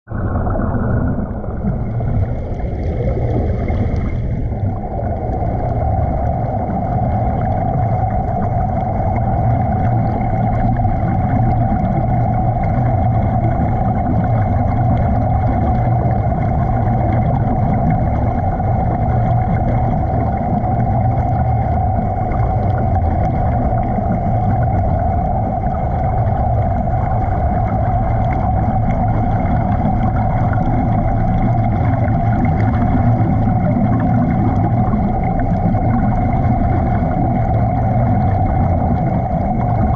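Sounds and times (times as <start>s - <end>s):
underwater low drone: 0.0s - 39.9s
mid-pitched hum: 0.1s - 39.9s.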